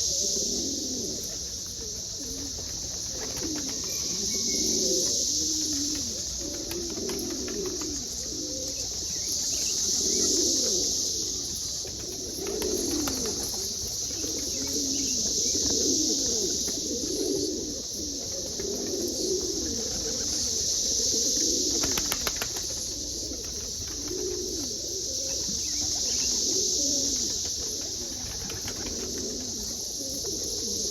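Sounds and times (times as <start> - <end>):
pigeons cooing: 0.0 - 30.9
steady high hiss: 0.0 - 30.9.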